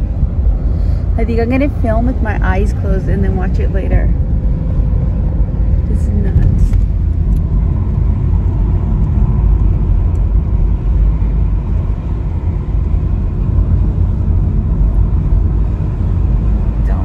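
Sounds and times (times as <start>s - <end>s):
car driving with engine rumble: 0.0s - 17.0s.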